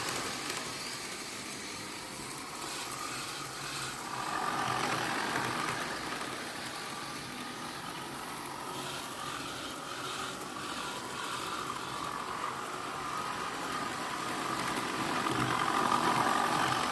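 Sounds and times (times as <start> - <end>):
model trains running on track: 0.0 - 16.9.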